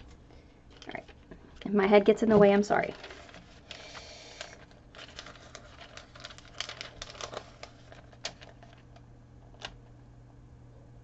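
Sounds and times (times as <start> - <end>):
transfer tape crinkling and ticking: 0.0 - 1.8, 2.4 - 10.0
faint steady hum: 0.0 - 11.0.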